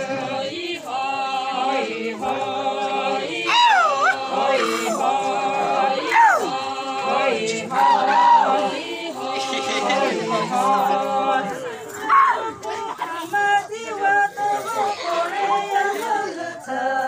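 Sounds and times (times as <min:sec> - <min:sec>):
women singing unaccompanied: 0:00.0 - 0:17.0.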